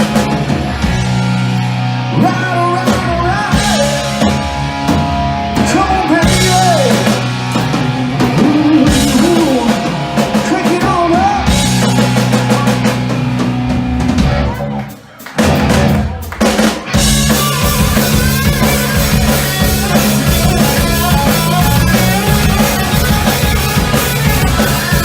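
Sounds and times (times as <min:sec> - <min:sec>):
electric lead guitar bending notes: 0:00.0 - 0:14.6, 0:16.9 - 0:25.0
live rock band playing: 0:00.0 - 0:25.0.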